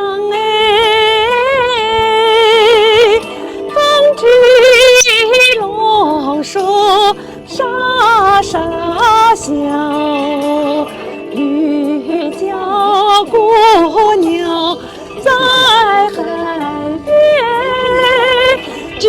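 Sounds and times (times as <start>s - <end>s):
woman singing with vibrato: 0.0s - 19.0s
musical accompaniment: 0.4s - 19.0s.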